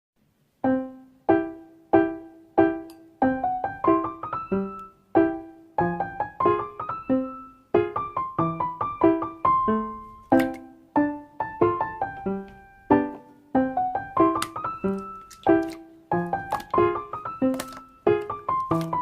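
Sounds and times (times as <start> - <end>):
piano chords and notes: 0.2 - 19.0.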